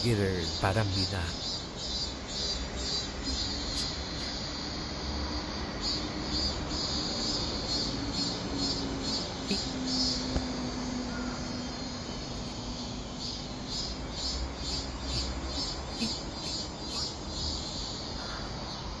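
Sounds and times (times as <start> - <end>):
cicadas buzzing: 0.0 - 19.0
low rumble of city traffic: 0.0 - 19.0
pulsing insect call: 0.0 - 19.0.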